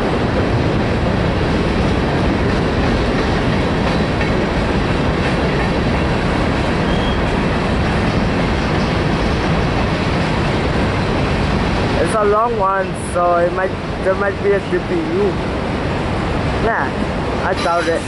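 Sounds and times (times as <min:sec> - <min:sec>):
freight train wheels on rails: 0:00.0 - 0:18.0.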